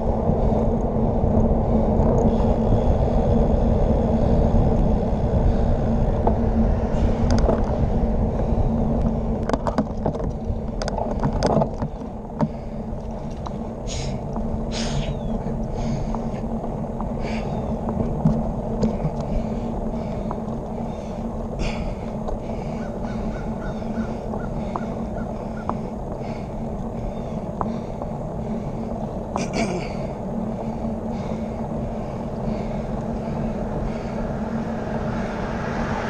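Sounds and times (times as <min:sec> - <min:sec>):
bike tyre road rumble: 0:00.0 - 0:36.0
wind rushing over microphone: 0:00.0 - 0:36.0
bike clicks and rattles: 0:00.1 - 0:34.6.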